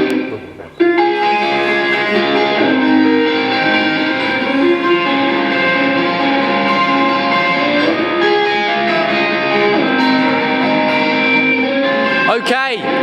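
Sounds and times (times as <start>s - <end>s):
electric guitar chords ringing: 0.0s - 13.0s.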